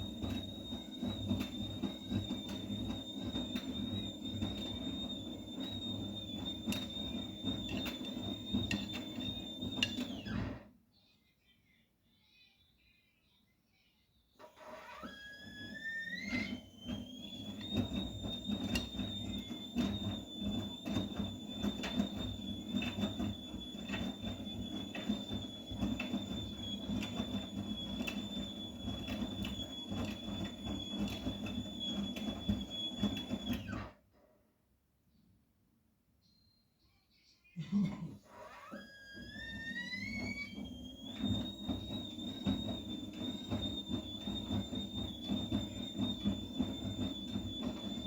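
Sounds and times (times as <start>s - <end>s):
washing machine motor whine: 0.0s - 10.7s, 14.4s - 34.0s, 37.6s - 48.0s.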